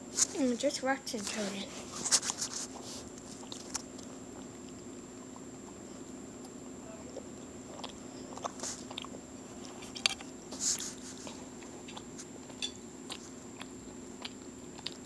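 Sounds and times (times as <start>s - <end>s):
faint steady hum: 0.0s - 15.0s
person chewing: 1.8s - 15.0s.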